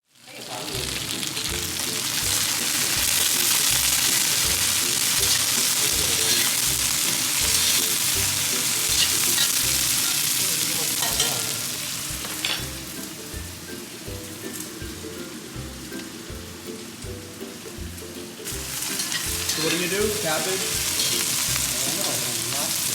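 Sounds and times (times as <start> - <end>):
cabbage sizzling in hot oil: 0.0 - 22.9
background music with low beat: 0.8 - 10.1, 11.9 - 21.8.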